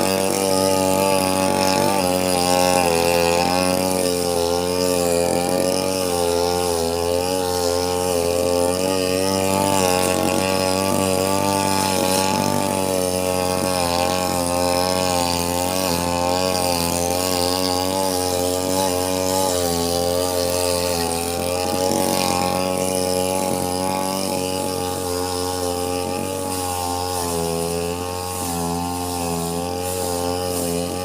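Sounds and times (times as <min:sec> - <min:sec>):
brush cutter cutting grass: 0:00.0 - 0:31.0.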